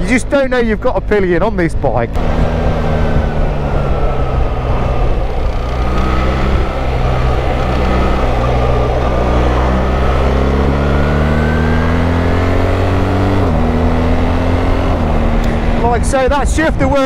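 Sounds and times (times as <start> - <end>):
wind noise: 0.7 - 17.0
gear change: 1.4 - 17.0
motorcycle engine revving: 2.1 - 16.1.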